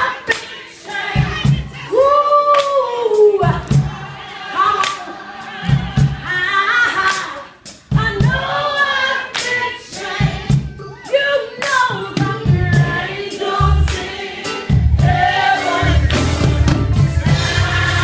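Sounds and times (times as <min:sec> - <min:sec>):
woman singing gospel: 0:00.0 - 0:16.1.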